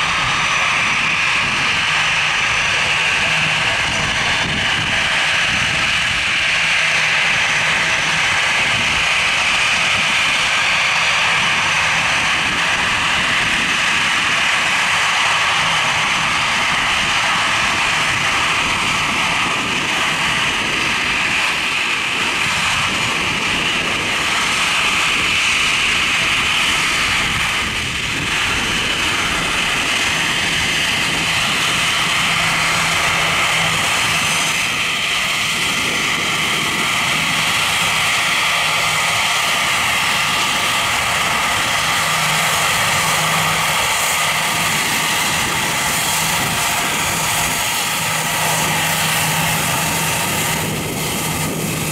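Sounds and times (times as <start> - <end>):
jet engines whining: 0.0 - 51.9.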